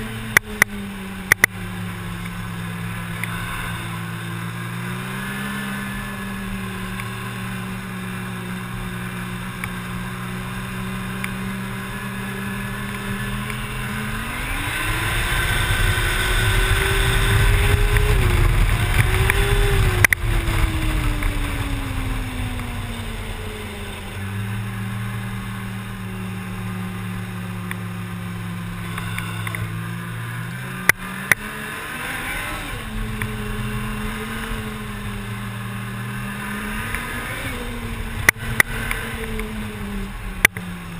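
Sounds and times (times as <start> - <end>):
snowmobile engine: 0.0 - 40.9.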